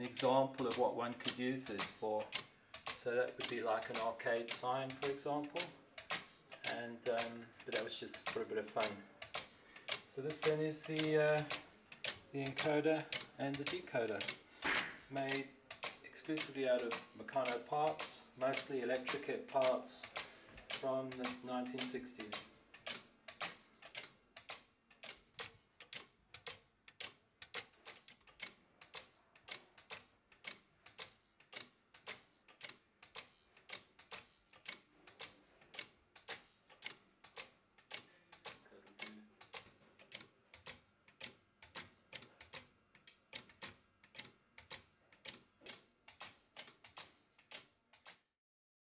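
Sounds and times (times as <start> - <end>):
electromechanical counter clicking: 0.0 - 48.3.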